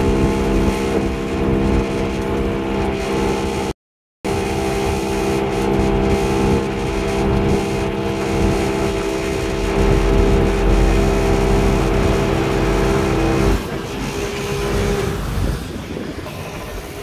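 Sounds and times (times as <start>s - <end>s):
truck engine rumbling: 0.0s - 3.7s, 4.3s - 17.0s.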